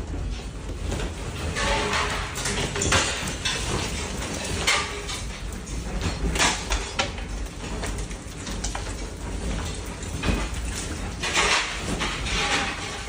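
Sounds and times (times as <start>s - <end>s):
loose objects rattling: 0.0s - 13.0s.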